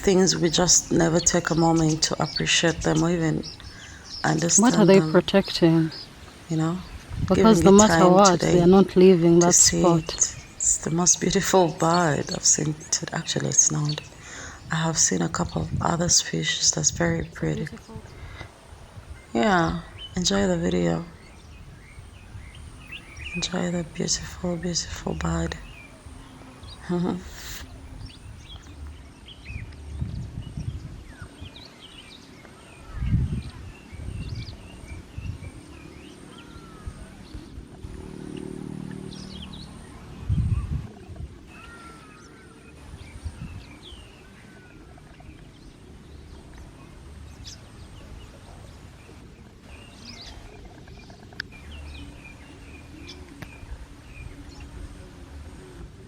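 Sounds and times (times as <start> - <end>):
low hum: 0.0 - 56.0
small birds chirping: 0.0 - 56.0.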